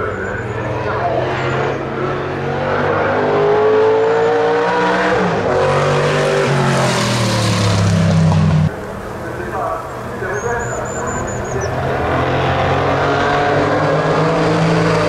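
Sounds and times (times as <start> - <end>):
racing car passing at speed: 0.0 - 9.2, 10.1 - 15.0.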